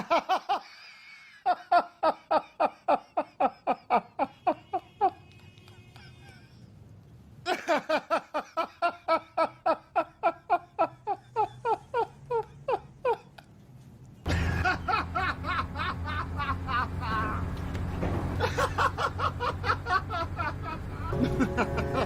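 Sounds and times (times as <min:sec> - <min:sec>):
person laughing: 0:00.0 - 0:06.7, 0:07.5 - 0:13.5, 0:14.3 - 0:17.5, 0:18.4 - 0:22.0.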